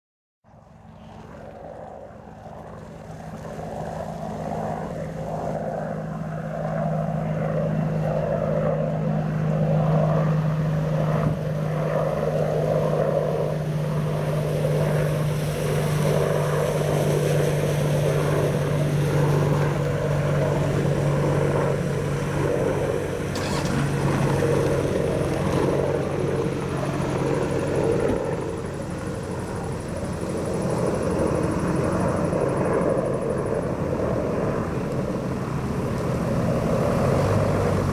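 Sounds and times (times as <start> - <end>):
helicopter flying overhead: 0.4 - 37.9.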